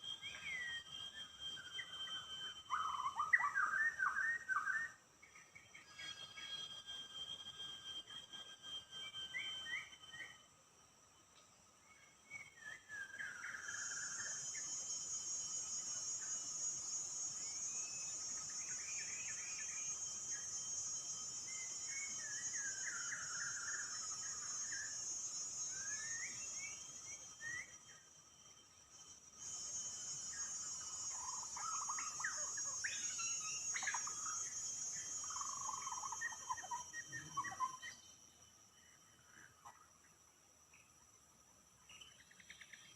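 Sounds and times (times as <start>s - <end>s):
songbird singing: 0.0s - 10.5s, 11.1s - 41.2s, 41.8s - 42.9s
high-pitched insect drone: 0.0s - 42.9s.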